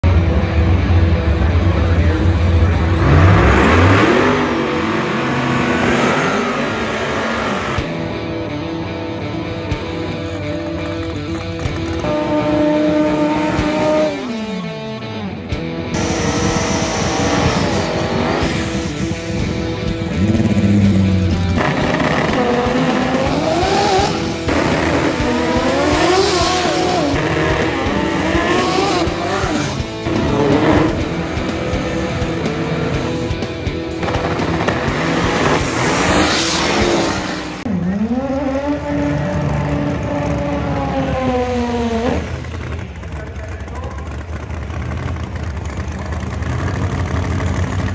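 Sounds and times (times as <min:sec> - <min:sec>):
rock music: 0:00.0 - 0:44.4
race car engines revving: 0:00.0 - 0:47.9.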